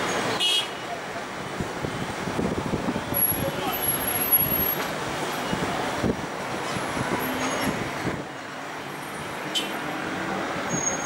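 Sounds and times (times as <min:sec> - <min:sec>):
city traffic: 0:00.0 - 0:11.0.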